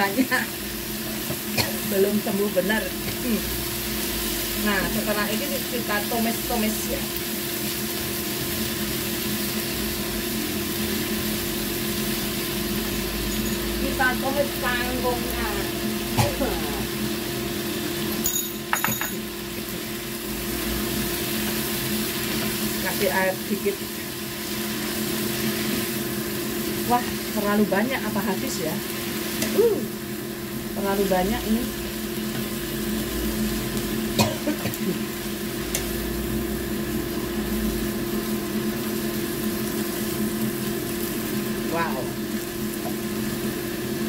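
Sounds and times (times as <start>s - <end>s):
vegetables sizzling in frying pan: 0.0s - 44.0s.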